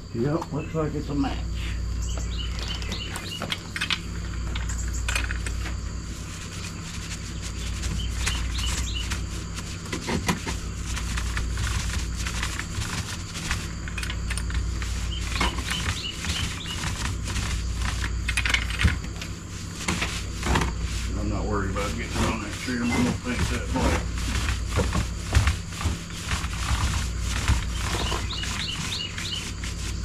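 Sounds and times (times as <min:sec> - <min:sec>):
insects chirping: 0:00.0 - 0:30.0
paint roller crackling on wood: 0:02.0 - 0:30.0.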